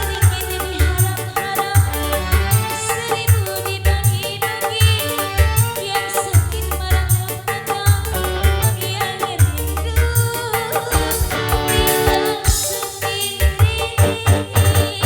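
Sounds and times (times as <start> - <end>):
driving drum beat: 0.0 - 15.0
electronic keyboard melody: 0.0 - 15.0.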